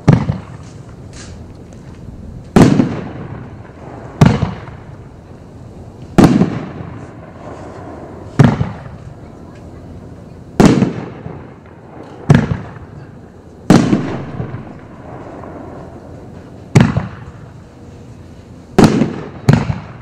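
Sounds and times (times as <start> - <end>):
firework booms with rumbling echo: 0.0 - 1.1, 2.1 - 17.6, 18.7 - 20.0.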